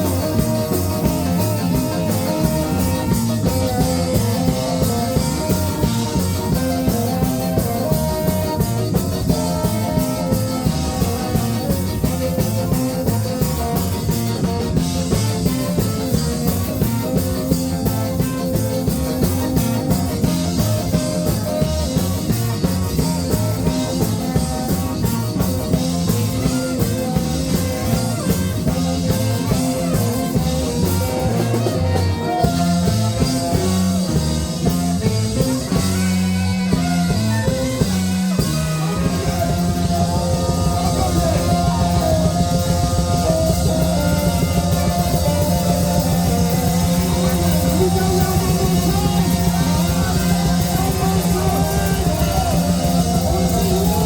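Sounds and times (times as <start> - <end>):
bass repeating one note: 0.0 - 54.0
live ska band playing: 0.0 - 54.0.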